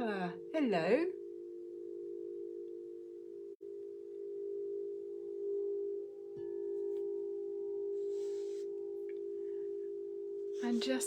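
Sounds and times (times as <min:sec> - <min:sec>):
higher ringing tones: 0:00.0 - 0:11.0
singing bowl sustained tone: 0:00.0 - 0:11.0.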